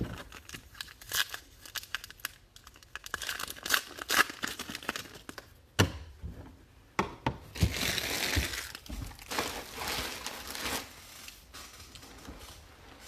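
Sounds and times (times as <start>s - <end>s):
wrappers crinkling: 0.0s - 5.5s, 7.6s - 13.0s.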